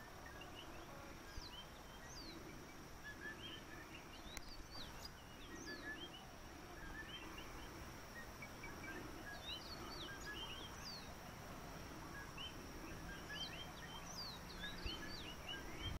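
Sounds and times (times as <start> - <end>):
faint steady hiss: 0.0 - 16.0
small birds chirping: 0.0 - 16.0.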